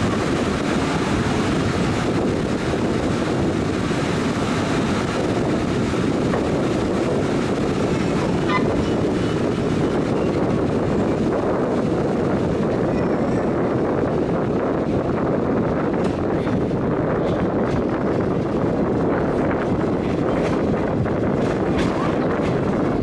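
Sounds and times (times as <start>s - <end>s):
train rumbling on rails: 0.0s - 23.0s
wind buffeting microphone: 0.0s - 23.0s.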